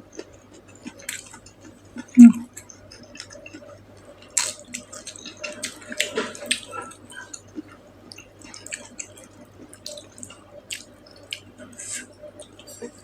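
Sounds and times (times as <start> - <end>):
wet chewing and mouth smacking: 0.1 - 12.9.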